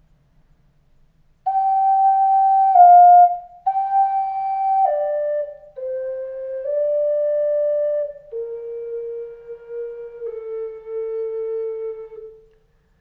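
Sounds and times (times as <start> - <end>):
flute playing slow melody: 1.5 - 12.8.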